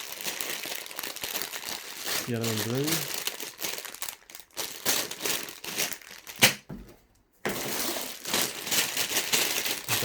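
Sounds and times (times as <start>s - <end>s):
sharp plastic crackle: 0.0s - 6.7s, 7.5s - 10.0s
plastic bags crinkling: 0.0s - 10.0s.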